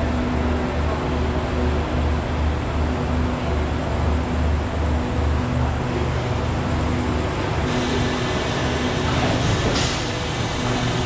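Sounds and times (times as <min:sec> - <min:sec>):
train carriages humming: 0:00.0 - 0:11.0.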